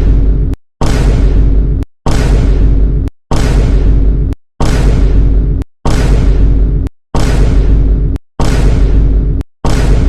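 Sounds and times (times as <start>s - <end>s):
deep loud boom: 0.0s - 10.0s.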